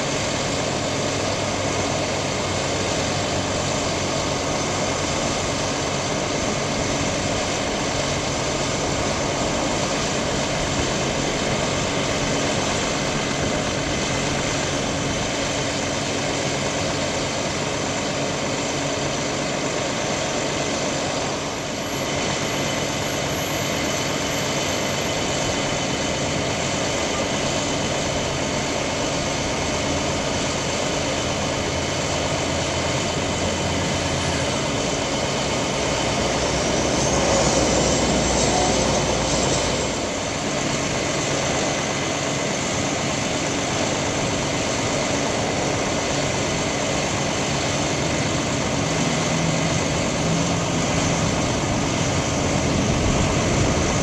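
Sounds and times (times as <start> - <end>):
faint hydraulic whine: 0.0 - 54.0
truck engine idling: 0.0 - 54.0.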